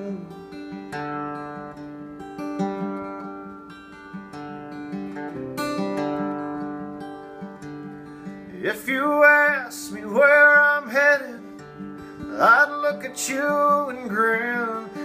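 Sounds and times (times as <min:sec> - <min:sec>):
acoustic guitar strummed and picked: 0:00.0 - 0:15.0.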